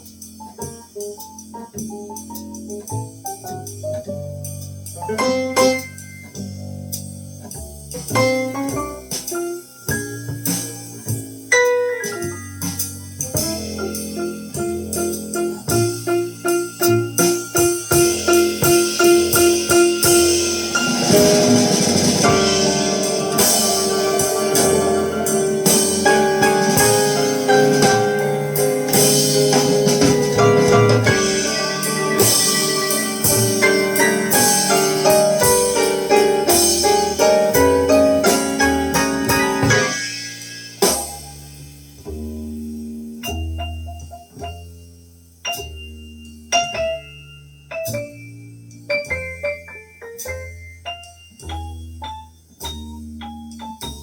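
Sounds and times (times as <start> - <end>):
jazz piano with percussion: 0.0 - 54.0.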